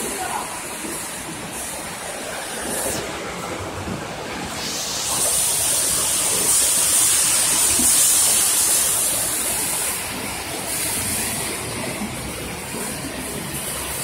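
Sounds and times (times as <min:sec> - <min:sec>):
fryer line rushing hiss: 0:00.0 - 0:14.0.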